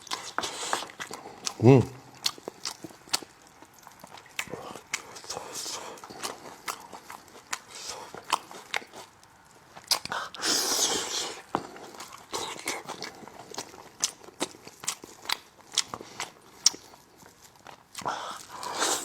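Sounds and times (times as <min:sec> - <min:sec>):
chewing and biting food: 0:00.0 - 0:19.0.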